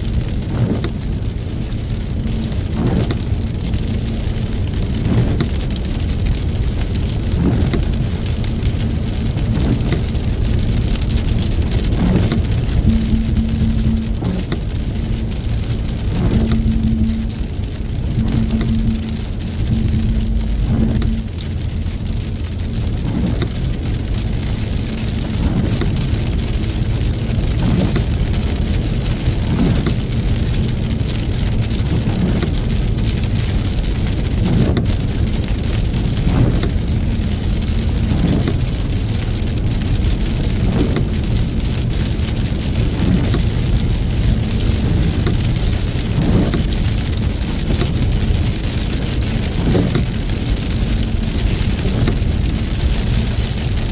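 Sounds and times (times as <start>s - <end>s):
engine and road rumble: 0.0s - 53.9s
heavy rain on a car: 0.0s - 53.9s.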